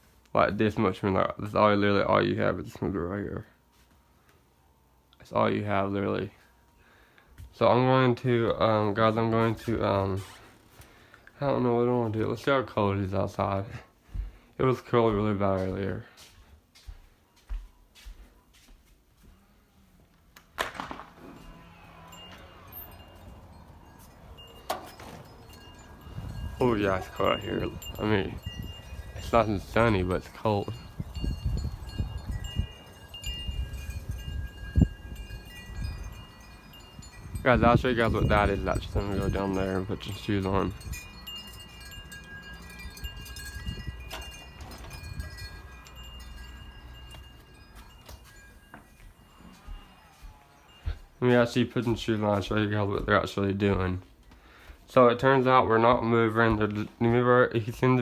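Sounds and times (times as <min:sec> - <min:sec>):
faint wind chimes: 0:00.0 - 0:20.2, 0:21.1 - 0:58.0.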